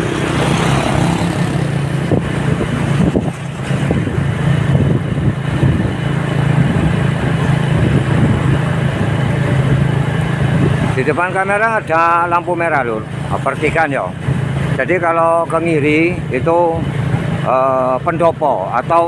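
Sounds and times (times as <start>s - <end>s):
low engine hum: 0.0s - 19.0s
passing motorcycles and cars: 0.0s - 19.0s
road and wind noise: 0.0s - 19.0s.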